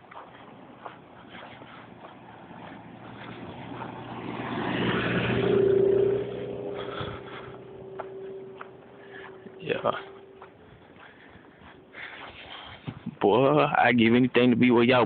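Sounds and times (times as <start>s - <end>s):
car driving past on snow: 0.2s - 12.4s.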